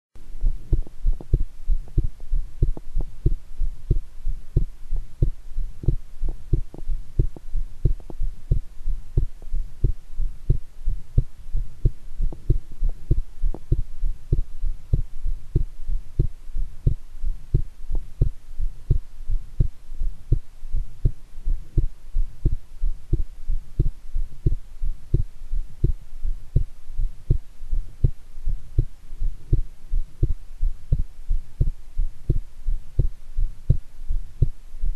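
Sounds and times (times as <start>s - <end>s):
heartbeat thumps: 0.2s - 34.9s.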